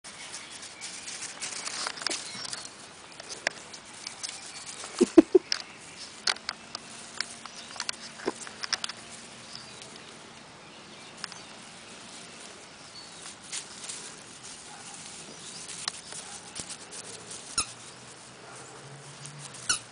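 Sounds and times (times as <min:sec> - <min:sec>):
puppy pattering in grass: 0:00.1 - 0:19.9.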